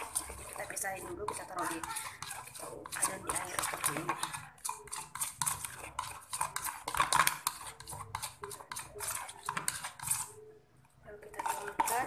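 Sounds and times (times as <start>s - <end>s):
metal spoon scraping plastic container: 0.0s - 10.5s, 11.2s - 12.0s.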